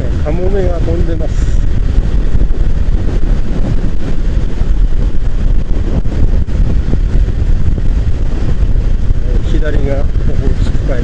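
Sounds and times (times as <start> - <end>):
motorcycle engine and road noise: 0.0 - 11.0
wind rush on microphone: 0.0 - 11.0.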